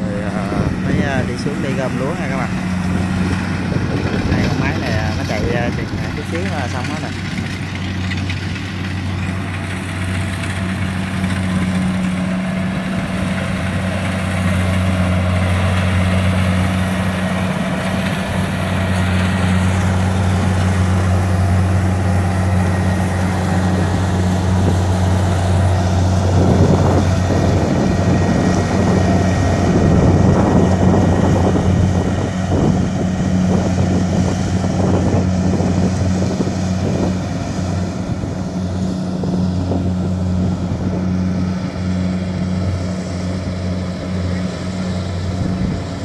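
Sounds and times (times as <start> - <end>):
combine harvester diesel engine: 0.0 - 46.0.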